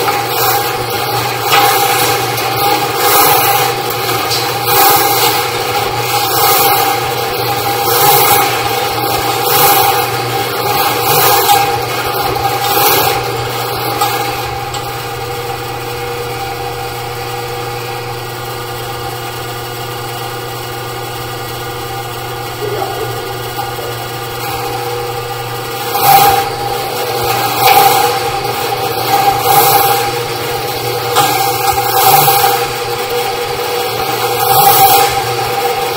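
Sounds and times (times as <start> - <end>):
drain machine motor hum: 0.0 - 35.9.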